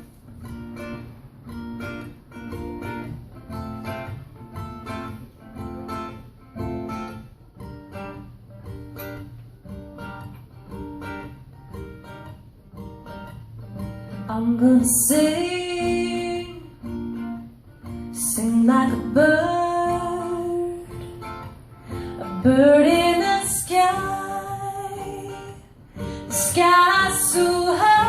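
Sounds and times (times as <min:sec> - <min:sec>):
ukulele strumming: 0:00.0 - 0:28.0.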